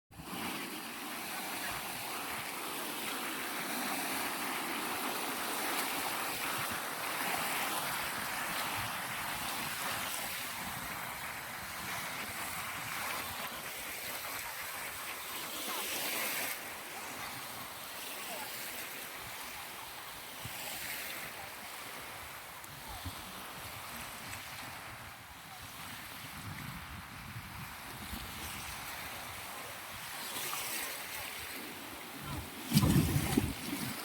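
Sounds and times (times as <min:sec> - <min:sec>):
ocean waves washing in: 0:00.2 - 0:34.0.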